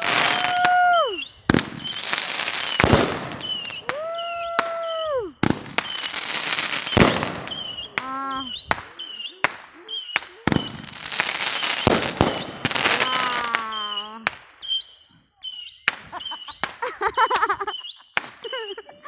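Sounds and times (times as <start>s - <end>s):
fireworks bangs: 0.0s - 18.7s.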